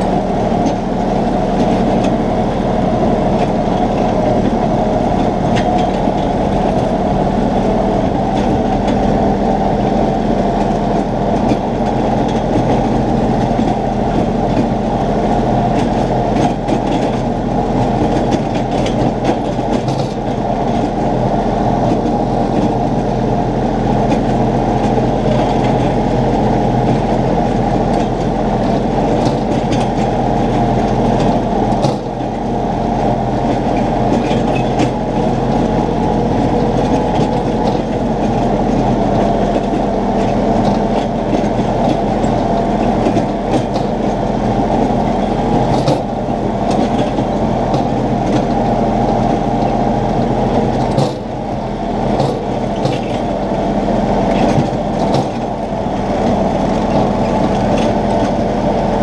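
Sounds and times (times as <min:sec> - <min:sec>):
tractor engine running while mowing: 0:00.0 - 0:59.0.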